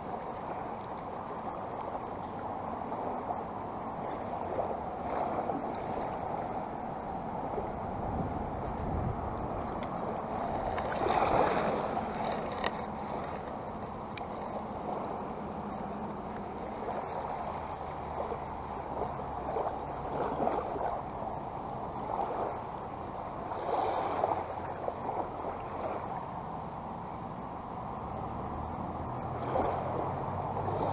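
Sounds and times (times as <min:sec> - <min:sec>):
small waves lapping: 0:00.0 - 0:30.9.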